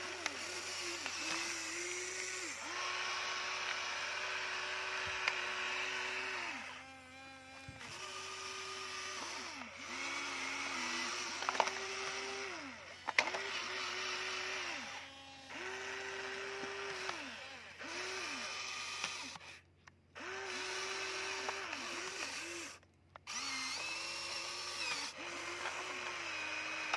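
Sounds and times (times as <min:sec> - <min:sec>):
toy excavator motors whirring: 0:00.0 - 0:26.9.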